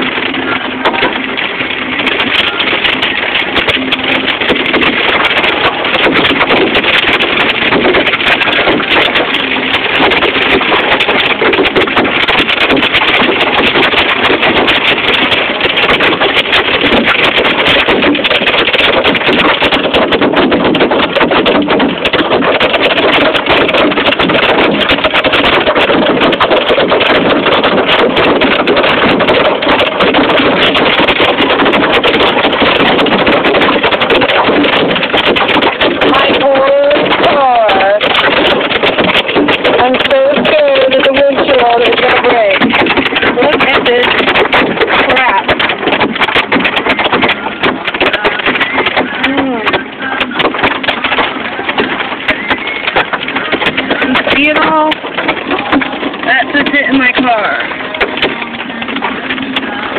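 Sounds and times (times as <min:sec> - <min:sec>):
hail clattering on car roof: 0:00.0 - 0:59.9.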